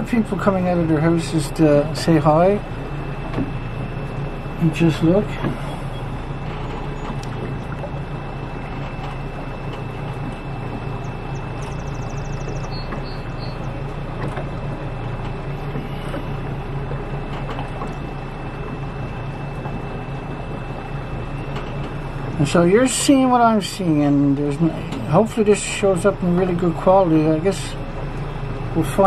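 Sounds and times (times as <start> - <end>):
high whine: 0.0 - 29.0
motorboat engine drone: 0.0 - 29.0
water and hull noise: 0.0 - 29.0.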